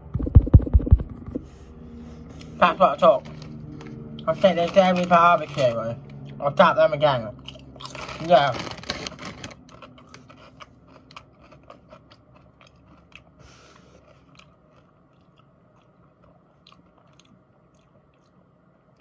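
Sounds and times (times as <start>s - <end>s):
person chewing crunchy chips: 2.3s - 19.0s.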